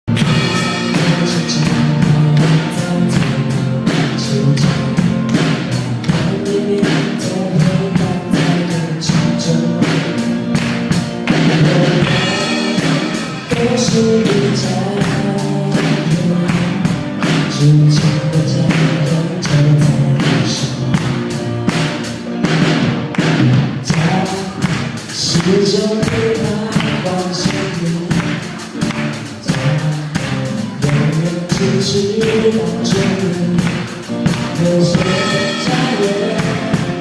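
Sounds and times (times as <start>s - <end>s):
steady drum beat: 0.0s - 37.0s
sustained band chords: 0.1s - 37.0s.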